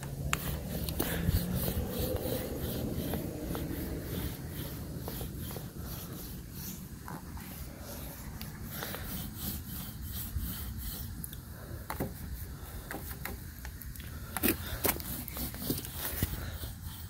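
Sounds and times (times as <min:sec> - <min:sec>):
sponge roller rubbing strokes: 0:00.0 - 0:11.3, 0:14.4 - 0:17.0.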